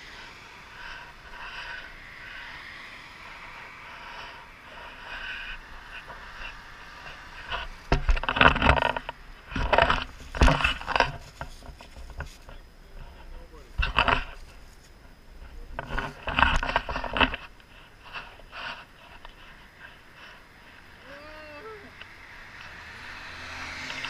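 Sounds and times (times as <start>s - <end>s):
faint road traffic: 0.0s - 24.0s.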